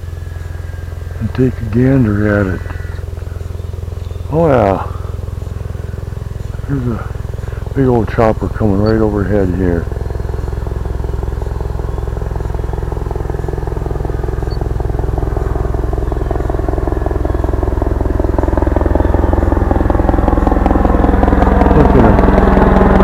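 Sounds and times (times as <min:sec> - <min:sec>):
helicopter passing overhead: 0:00.0 - 0:23.0.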